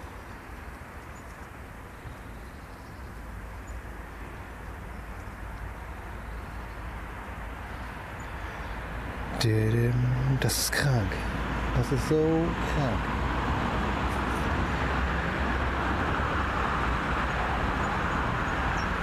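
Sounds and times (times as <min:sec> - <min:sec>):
outdoor background rumble: 0:00.0 - 0:19.0.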